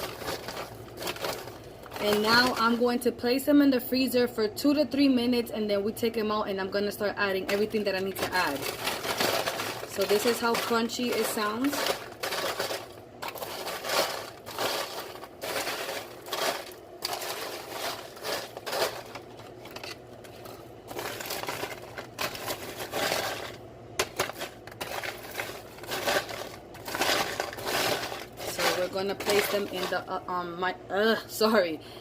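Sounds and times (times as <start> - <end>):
popcorn being stirred crunching: 0.0 - 3.0, 7.2 - 30.4.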